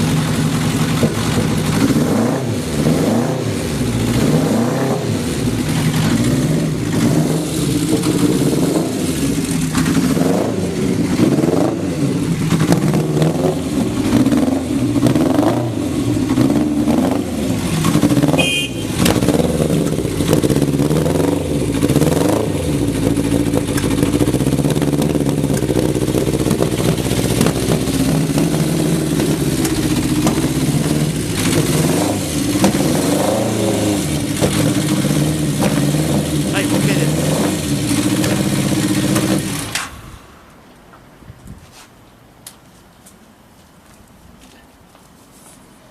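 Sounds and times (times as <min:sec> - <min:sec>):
motorcycle engine revving: 0:00.0 - 0:40.2.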